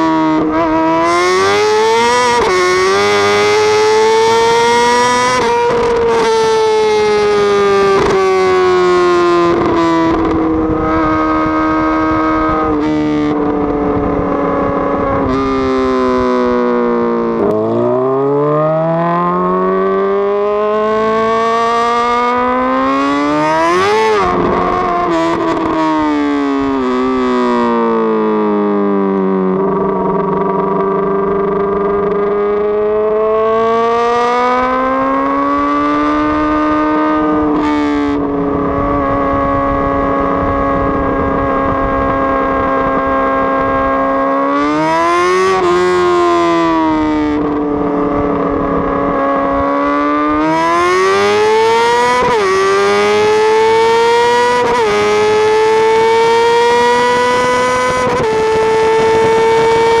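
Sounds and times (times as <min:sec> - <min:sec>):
vehicle engine revving: 0:00.0 - 1:00.0.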